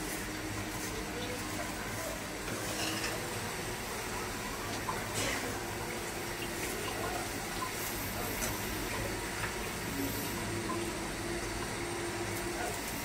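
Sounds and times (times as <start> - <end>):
vermicelli sizzling in a pan: 0.0 - 13.0.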